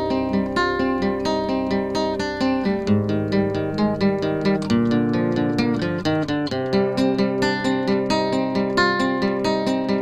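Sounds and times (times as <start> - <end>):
picked notes over held chords: 0.0 - 10.0.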